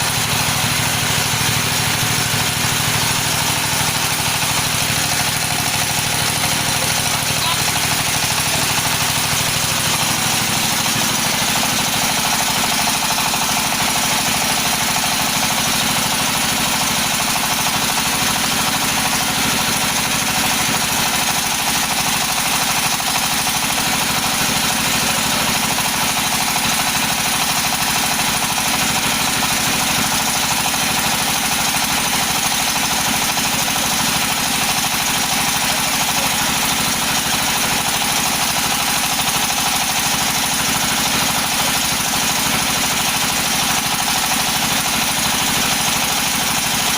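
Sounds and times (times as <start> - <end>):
machine running steadily: 0.0 - 46.9.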